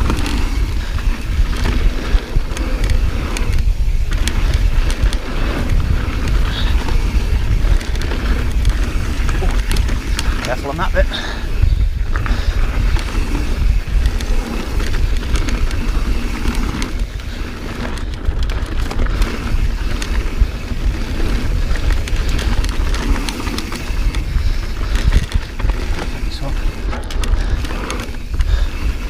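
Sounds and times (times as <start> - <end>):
bike clicks and rattles: 0.0 - 29.0
wind buffeting microphone: 0.0 - 29.0.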